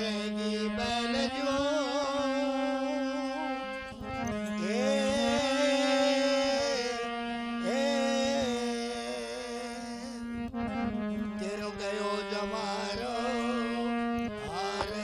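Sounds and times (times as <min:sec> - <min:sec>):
steady drone: 0:00.0 - 0:15.0.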